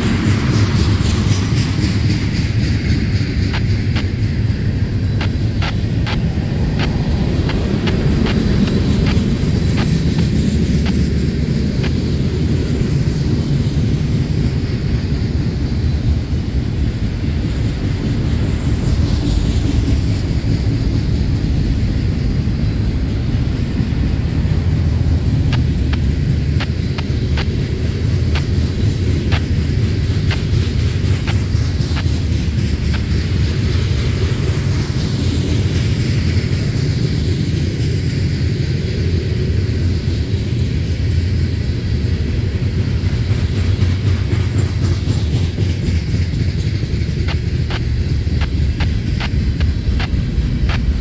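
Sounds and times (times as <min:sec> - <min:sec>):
sharp clicks from wheels: 0:00.0 - 0:51.0
steel wheels rumbling on rail: 0:00.0 - 0:51.0.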